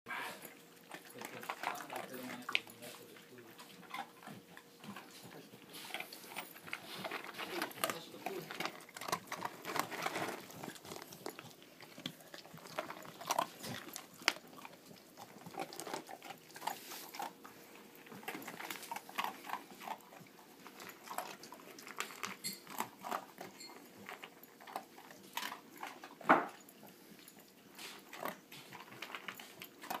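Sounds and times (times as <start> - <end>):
dogs crunching dry kibble: 0.1 - 30.0.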